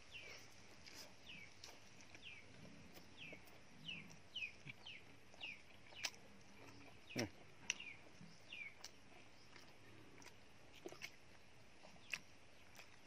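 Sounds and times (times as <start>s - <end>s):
bird chirping: 0.0s - 13.0s
soft chewing: 0.0s - 13.0s.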